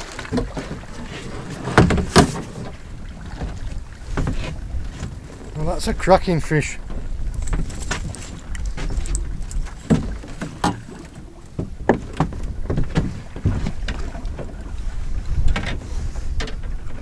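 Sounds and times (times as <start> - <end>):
knocks and clatters in boat: 0.0 - 17.0
wind on microphone: 0.0 - 17.0.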